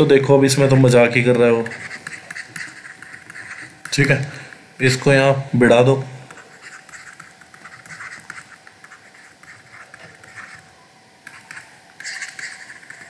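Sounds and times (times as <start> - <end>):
stylus scratching on tablet: 0.0 - 13.0.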